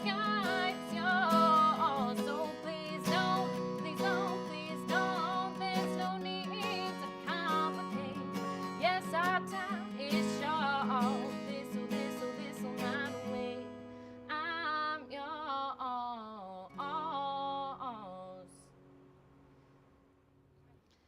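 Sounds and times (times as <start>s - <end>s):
woman singing: 0.0s - 18.7s
acoustic guitar chords: 0.0s - 20.8s.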